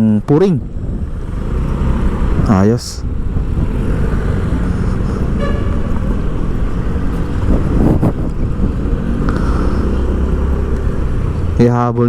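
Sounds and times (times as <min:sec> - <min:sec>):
street traffic: 0:00.0 - 0:12.0
wind rumbling on microphone: 0:00.4 - 0:11.6
vehicle passing: 0:00.6 - 0:12.0.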